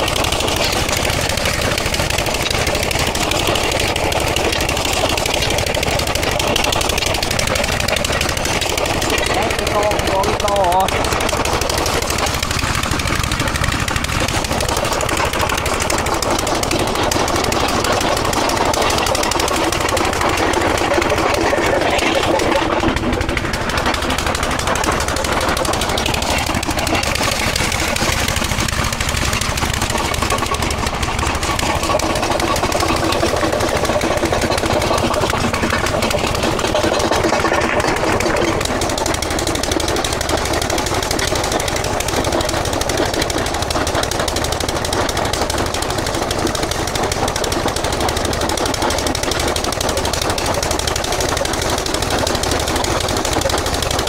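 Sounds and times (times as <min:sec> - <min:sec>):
diesel engine: 0:00.0 - 0:54.0
machinery hammering clatter: 0:00.0 - 0:54.0.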